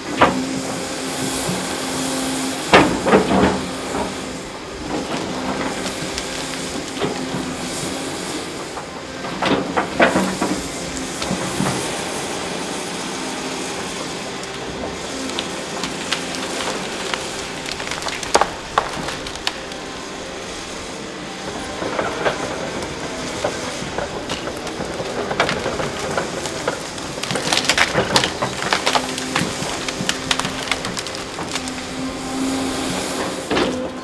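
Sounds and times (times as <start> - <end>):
excavator engine hum: 0.0 - 34.0
wood cracking and splintering: 0.0 - 34.0.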